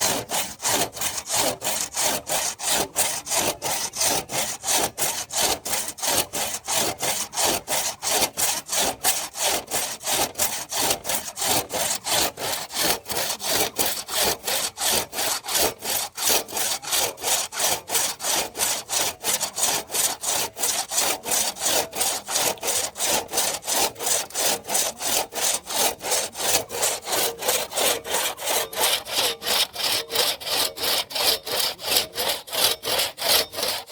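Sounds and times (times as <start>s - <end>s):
hand saw cutting wood: 0.0s - 33.9s.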